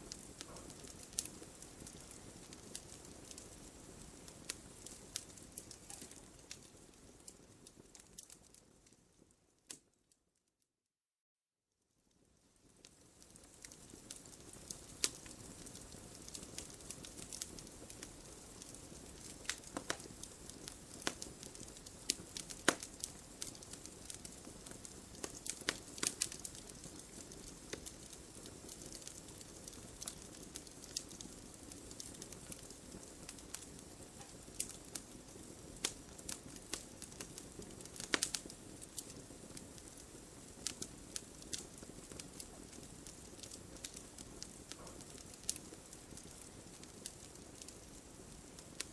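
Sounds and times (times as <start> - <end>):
low hiss of fire: 0.0 - 9.9, 12.0 - 48.9
fire crackling and popping: 0.0 - 10.1, 12.0 - 48.9.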